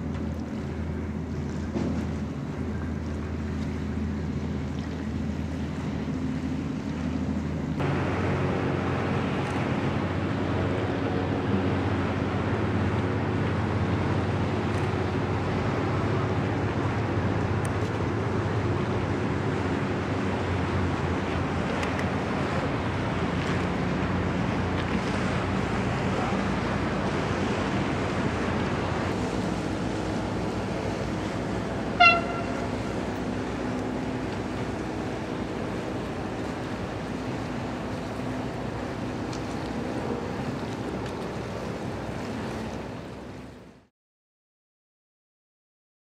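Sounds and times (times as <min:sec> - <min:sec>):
water splashing: 0:00.0 - 0:43.8
boat engine drone: 0:00.0 - 0:43.9.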